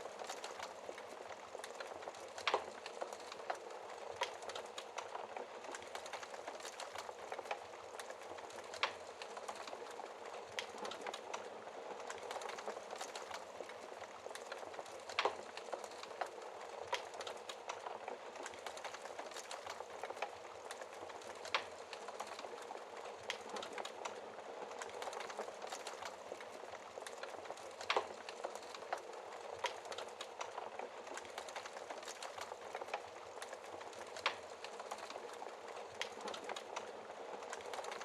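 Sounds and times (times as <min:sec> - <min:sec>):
wood fire crackling: 0:00.0 - 0:38.0
burning logs popping: 0:00.2 - 0:38.0.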